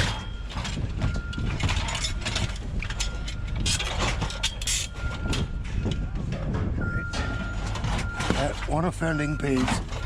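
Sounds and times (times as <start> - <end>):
scrap metal clanking: 0.0 - 10.0
vehicle engine rumbling: 0.0 - 10.0.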